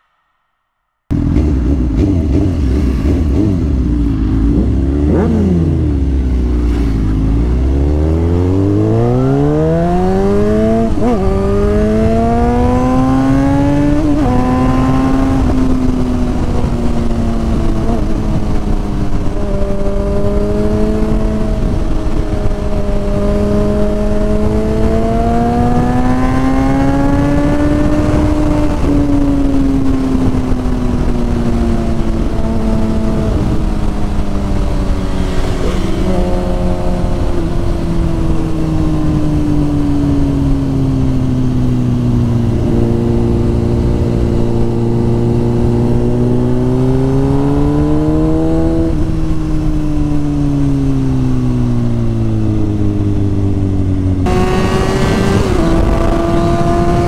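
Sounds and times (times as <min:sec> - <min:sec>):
motorcycle engine revving: 0:01.1 - 0:57.0
wind rush: 0:01.1 - 0:57.0.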